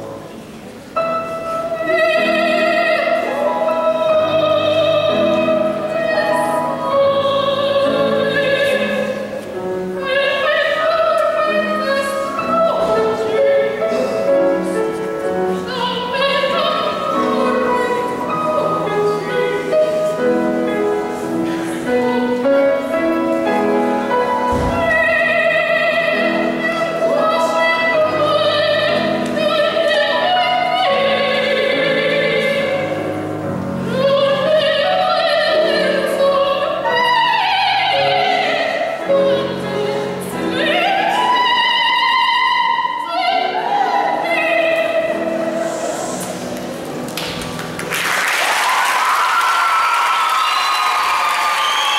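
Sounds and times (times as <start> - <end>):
operatic singing: 1.5 - 47.0.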